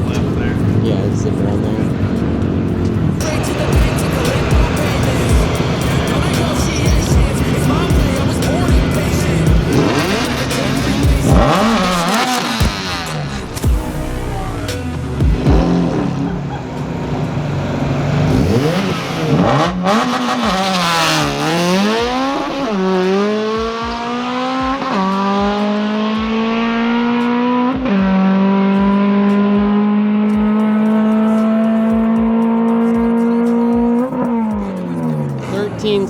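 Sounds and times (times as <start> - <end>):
racing car engine accelerating: 0.0 - 36.0.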